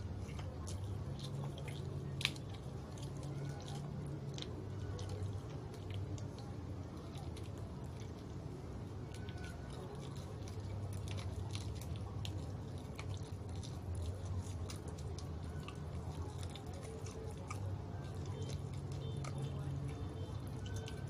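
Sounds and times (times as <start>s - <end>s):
chewing crispy fried chicken: 0.0s - 21.0s.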